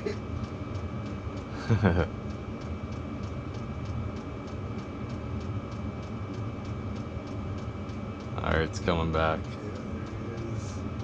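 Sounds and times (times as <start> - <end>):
heaters droning: 0.0 - 11.0
faint ticking: 0.3 - 11.0.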